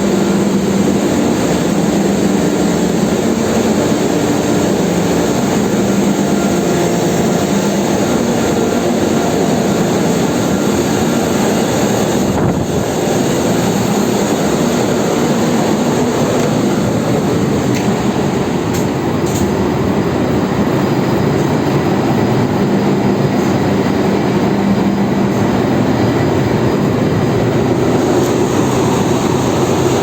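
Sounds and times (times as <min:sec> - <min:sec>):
engine room machinery droning: 0:00.0 - 0:30.0.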